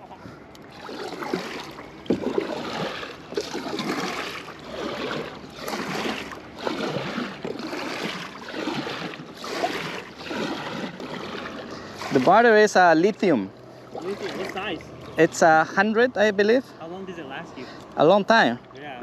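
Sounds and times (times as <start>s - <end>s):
kayak paddle swishing and dripping: 0.0s - 15.8s.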